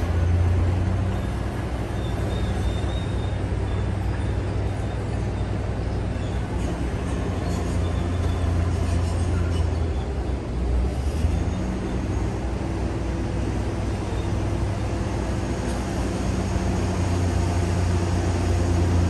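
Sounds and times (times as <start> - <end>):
bulldozer diesel engine rumbling: 0.0 - 19.0.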